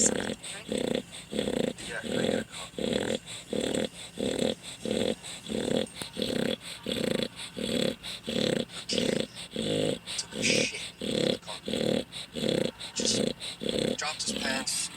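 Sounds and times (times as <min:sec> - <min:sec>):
dog snoring loudly: 0:00.0 - 0:14.9.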